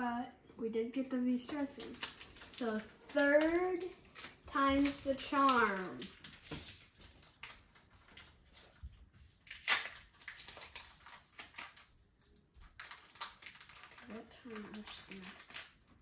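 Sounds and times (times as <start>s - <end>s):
foil wrapper crinkling: 1.5s - 16.0s.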